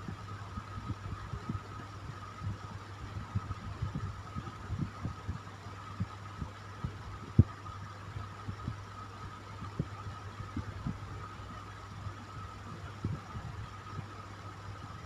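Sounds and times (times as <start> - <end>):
electric fan whirring: 0.0 - 15.0.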